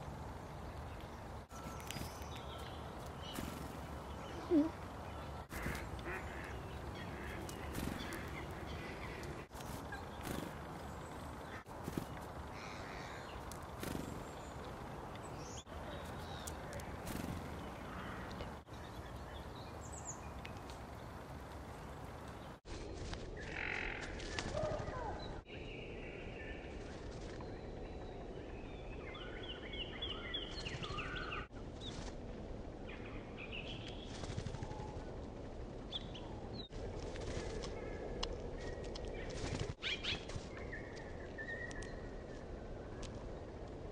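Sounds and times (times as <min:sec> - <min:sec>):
small birds chirping: 0:00.0 - 0:22.6, 0:23.3 - 0:32.2, 0:32.8 - 0:43.9.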